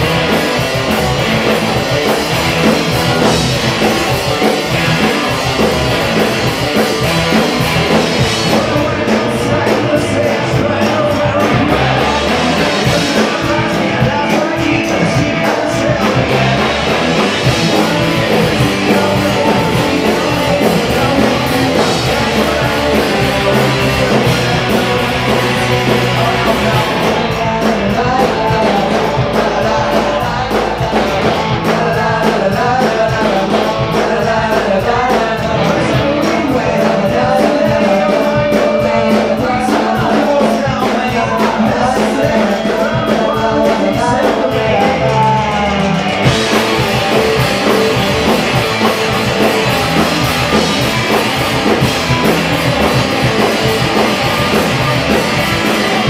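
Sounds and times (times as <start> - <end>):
bass guitar: 0.0 - 56.0
drum kit: 0.0 - 56.0
electric guitar: 0.0 - 56.0
person singing: 0.0 - 56.0.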